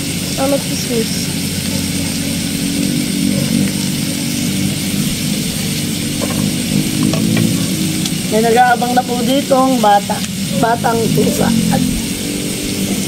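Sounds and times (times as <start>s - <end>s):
low engine-like drone: 0.0s - 13.0s
meat sizzling in a pan: 0.0s - 13.0s.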